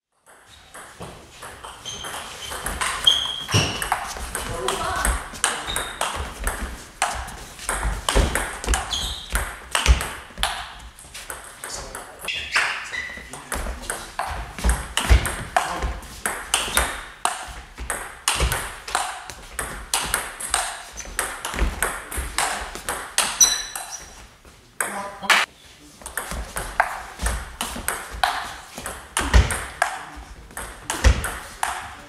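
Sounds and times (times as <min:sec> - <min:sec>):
table tennis ball bouncing: 0:00.2 - 0:12.8, 0:13.5 - 0:24.2, 0:26.1 - 0:32.0
table tennis ball hitting bats: 0:00.2 - 0:12.8, 0:13.5 - 0:24.2, 0:24.8 - 0:32.0.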